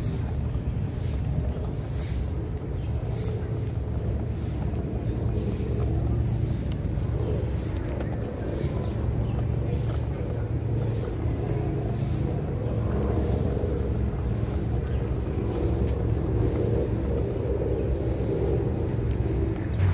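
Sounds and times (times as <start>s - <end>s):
faint regular footstep pulse: 0.0s - 19.9s
wind buffeting microphone: 0.0s - 19.9s.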